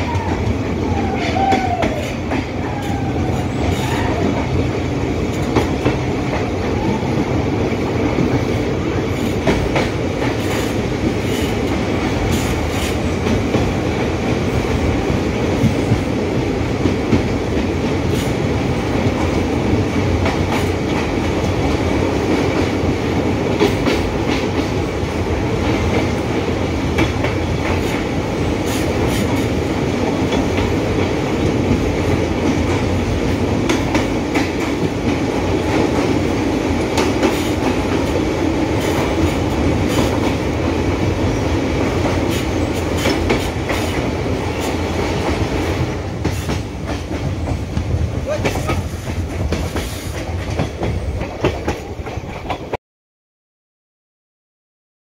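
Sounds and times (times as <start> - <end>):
train wheels rumbling on rails: 0.0 - 52.8.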